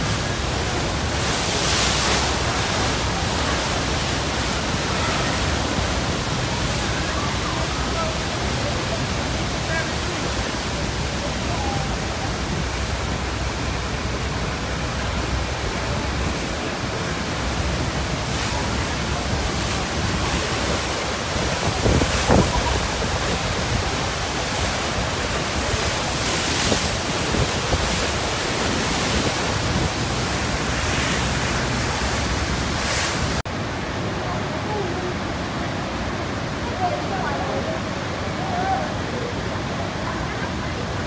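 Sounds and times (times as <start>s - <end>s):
waterfall rushing: 0.0s - 41.0s
wind gusts on microphone: 0.0s - 41.0s.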